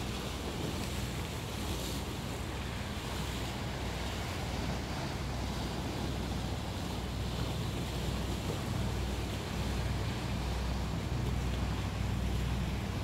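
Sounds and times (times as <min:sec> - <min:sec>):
sea surf against rocks: 0:00.0 - 0:13.0
wind rumble on microphone: 0:00.0 - 0:13.0.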